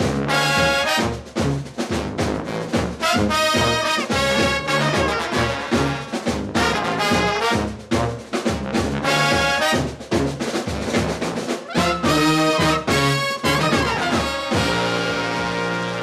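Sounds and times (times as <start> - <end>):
brass band playing: 0.0 - 16.0
snare and bass drum beats: 0.0 - 16.0.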